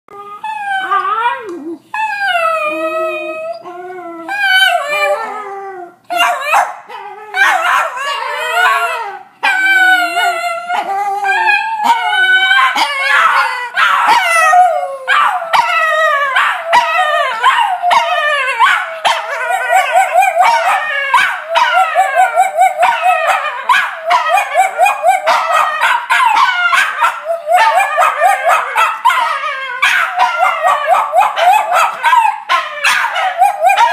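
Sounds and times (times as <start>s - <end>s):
dogs howling: 0.3s - 33.9s
dogs yipping howls: 6.1s - 33.9s.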